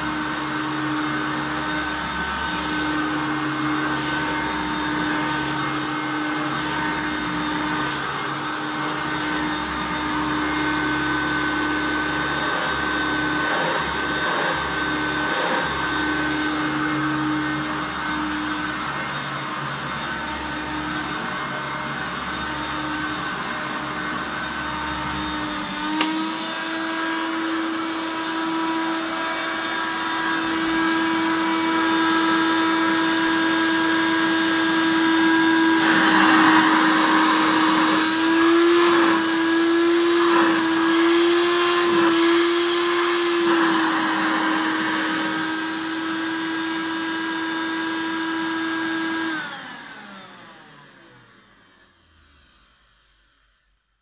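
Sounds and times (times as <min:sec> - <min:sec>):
vacuum cleaner motor running: 0:00.0 - 0:53.4.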